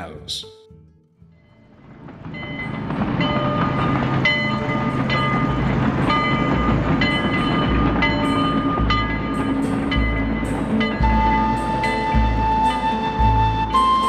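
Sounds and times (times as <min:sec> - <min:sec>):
train rumbling on rails: 0:01.7 - 0:14.0.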